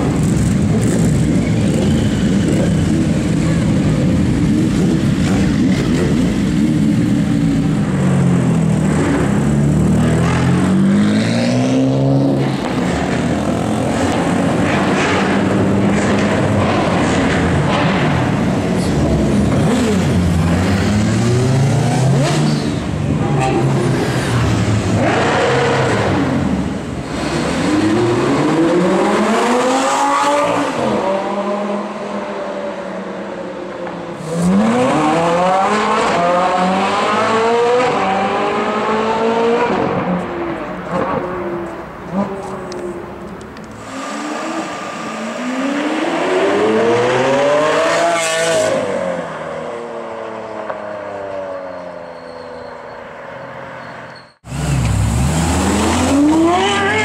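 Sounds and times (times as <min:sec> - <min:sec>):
engines revving and accelerating: 0:00.0 - 0:43.0, 0:43.6 - 0:51.5, 0:54.4 - 0:57.0.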